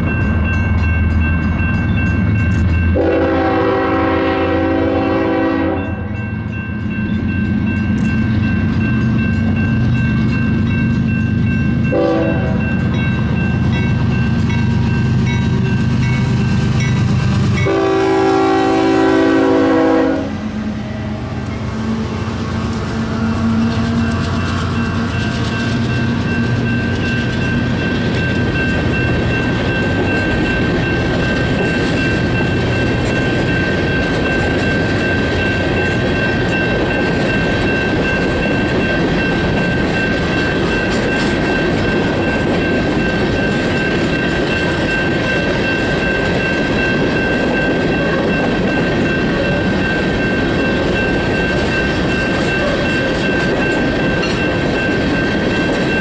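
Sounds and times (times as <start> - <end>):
diesel locomotive engines: 0.0 - 56.0
train cars rumbling over rails: 0.0 - 56.0.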